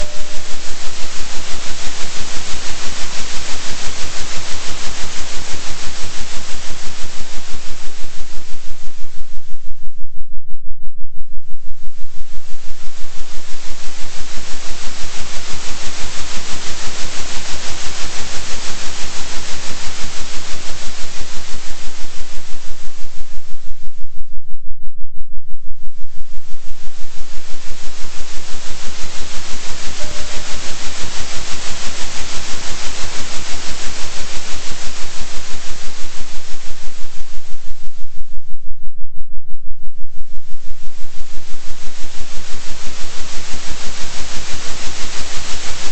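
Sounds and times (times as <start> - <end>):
pulsing synthetic hiss: 0.0 - 9.6, 11.7 - 23.9, 26.1 - 38.2, 40.1 - 45.9
low hum: 0.0 - 45.9.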